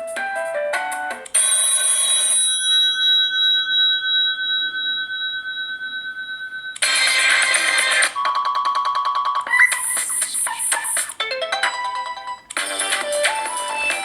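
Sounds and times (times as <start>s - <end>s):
phone ringtone chiming: 1.3s - 10.1s, 11.2s - 14.0s.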